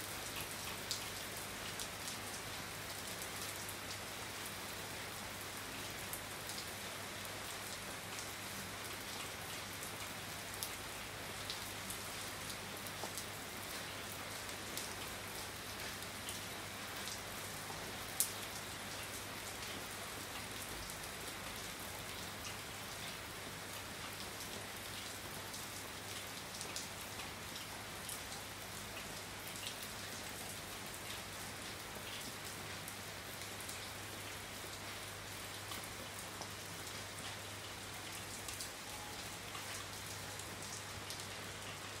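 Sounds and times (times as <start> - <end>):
rain on a wet street: 0.0 - 42.0.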